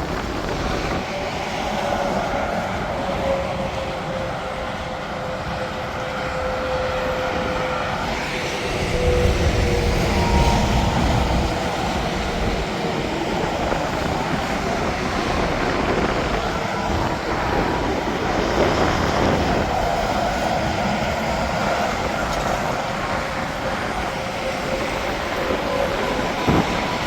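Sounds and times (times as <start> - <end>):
highway traffic: 0.0 - 27.0.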